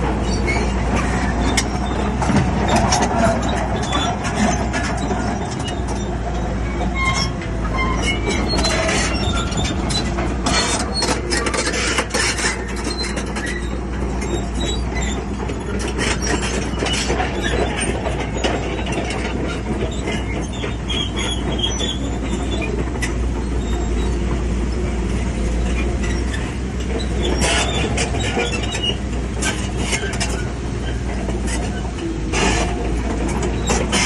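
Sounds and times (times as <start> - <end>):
diesel engine running: 0.0 - 34.0
steel tracks clanking and squealing: 0.0 - 34.0.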